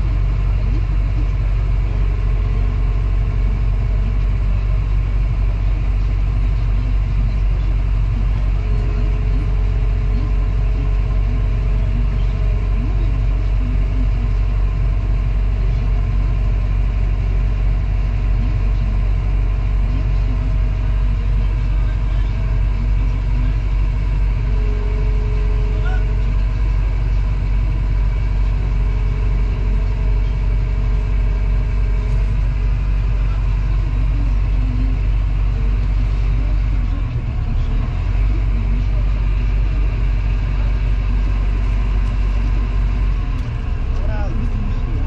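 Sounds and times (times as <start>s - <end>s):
diesel engine droning: 0.0s - 45.0s.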